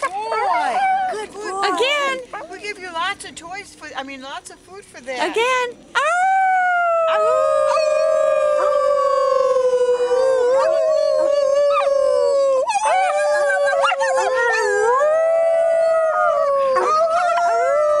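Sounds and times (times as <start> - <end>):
coyote howling: 0.0 - 2.5, 5.9 - 18.0.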